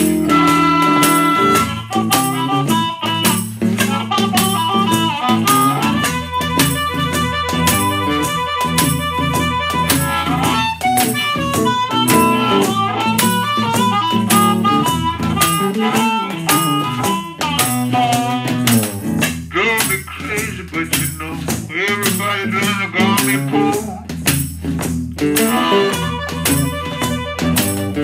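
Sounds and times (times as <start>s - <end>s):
harmonica lead: 0.0s - 24.5s, 25.1s - 28.0s
guitar: 0.0s - 28.0s
washboard rattling beat: 0.0s - 28.0s.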